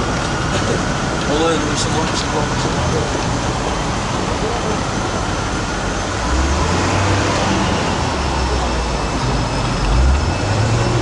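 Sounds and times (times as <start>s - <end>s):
heavy vehicle engine rumble: 0.0s - 11.0s
tyre and road noise: 0.0s - 11.0s.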